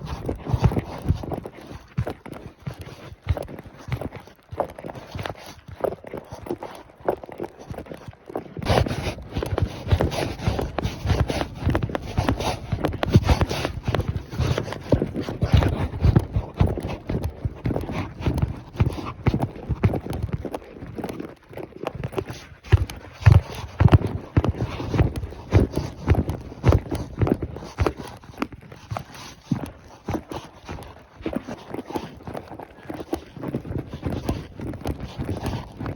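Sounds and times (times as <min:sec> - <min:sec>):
horse hoofbeats: 0:00.0 - 0:35.9.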